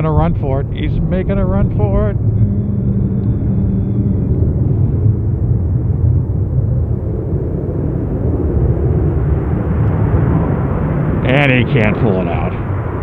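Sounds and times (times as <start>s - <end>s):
jet airliners landing roar: 0.0s - 13.0s
wind buffeting microphone: 0.0s - 13.0s.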